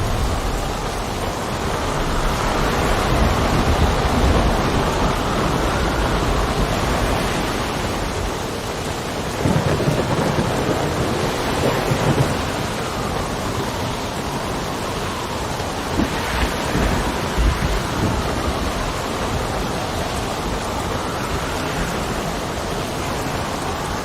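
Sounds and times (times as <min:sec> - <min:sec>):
low rolling thunder: 0:00.0 - 0:24.0
steady rain: 0:00.0 - 0:24.0.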